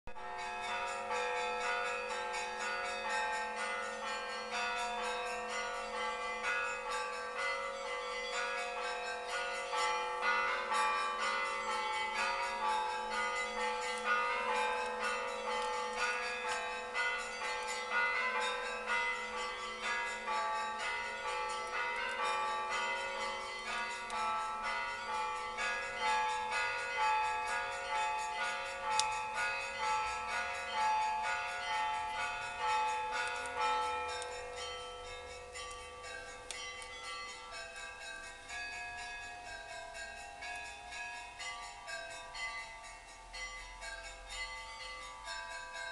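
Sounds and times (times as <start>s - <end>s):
hum of larger bells: 0.1s - 45.9s
small high church bells: 0.1s - 45.9s.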